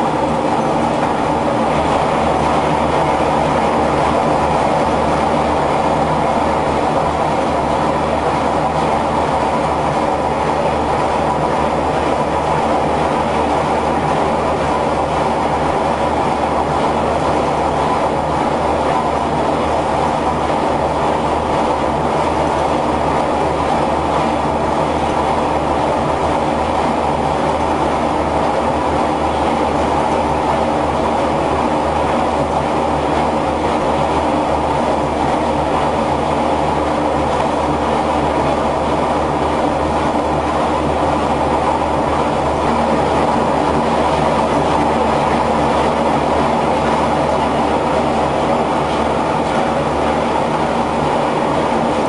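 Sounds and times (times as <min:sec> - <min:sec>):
mill machinery knocking rapidly: 0:00.0 - 0:52.0.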